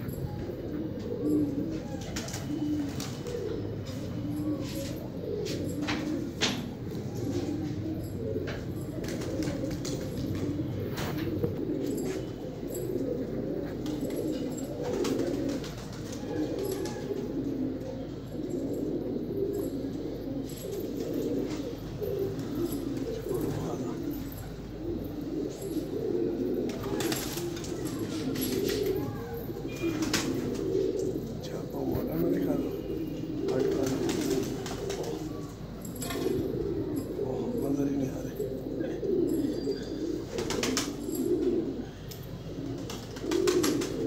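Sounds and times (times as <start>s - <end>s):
pigeons cooing: 0.0s - 44.0s.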